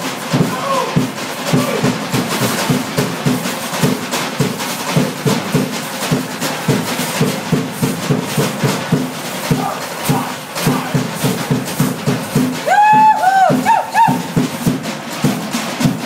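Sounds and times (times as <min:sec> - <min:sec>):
drums beaten fast: 0:00.0 - 0:16.0.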